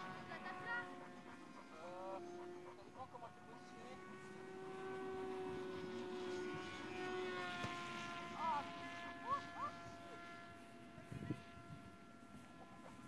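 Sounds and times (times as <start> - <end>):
model plane motor whine: 0.0 - 13.0.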